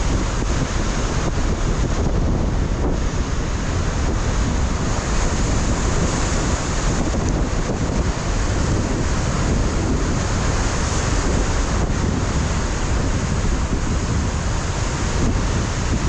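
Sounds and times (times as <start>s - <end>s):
surf breaking on rocky shore: 0.0s - 16.0s
wind buffeting microphone: 0.0s - 16.0s.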